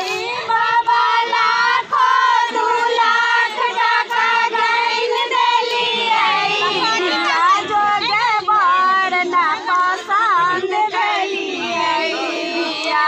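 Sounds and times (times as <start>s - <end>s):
girls singing: 0.0s - 13.0s.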